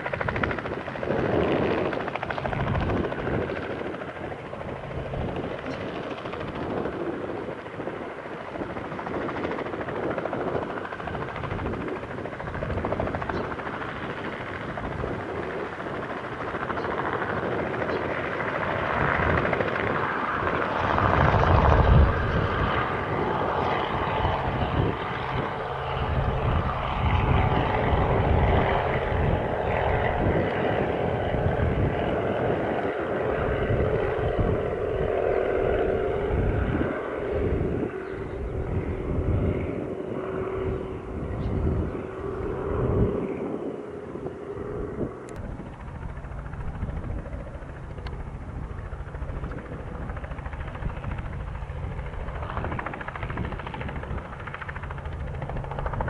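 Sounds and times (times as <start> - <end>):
helicopter piston engine hum: 0.0 - 56.0
helicopter rotor beating: 0.0 - 56.0.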